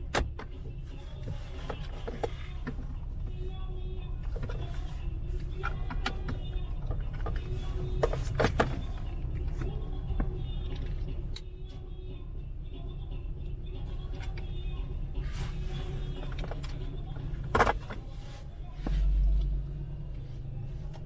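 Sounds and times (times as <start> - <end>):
low rumble of road noise: 0.0 - 21.0.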